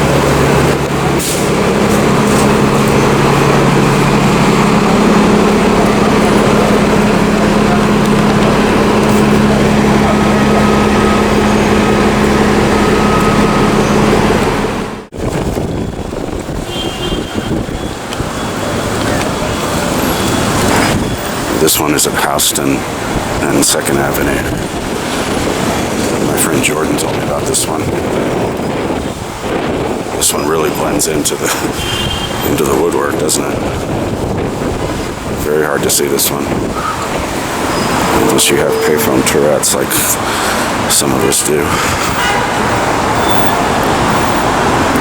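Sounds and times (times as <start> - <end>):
large vehicle engine running: 0.0 - 16.7, 17.4 - 45.0
street traffic: 0.0 - 45.0.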